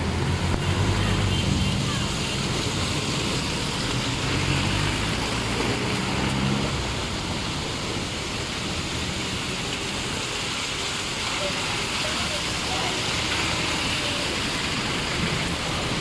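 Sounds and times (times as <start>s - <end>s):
heavy rain pouring: 0.0s - 16.0s
vehicles driving on wet road: 0.0s - 16.0s.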